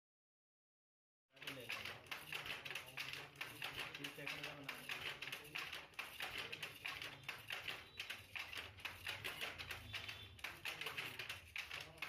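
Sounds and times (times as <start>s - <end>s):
wooden handloom clattering: 1.4s - 12.0s.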